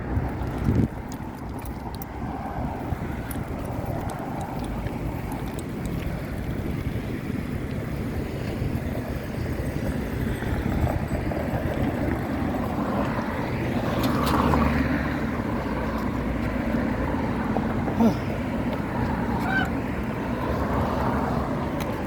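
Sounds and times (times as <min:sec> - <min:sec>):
wind on microphone: 0:00.0 - 0:17.9
road traffic noise: 0:00.0 - 0:22.0.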